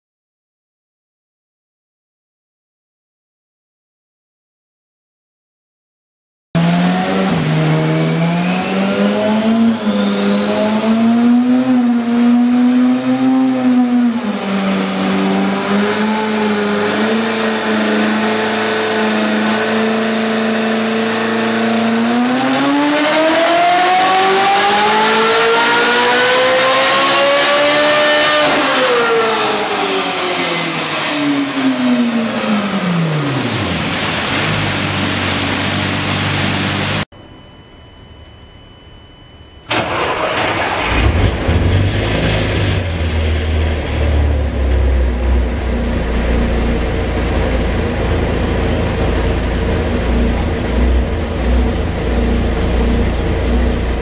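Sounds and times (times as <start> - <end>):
sports car engine revving: 6.6 - 37.0, 39.7 - 54.0.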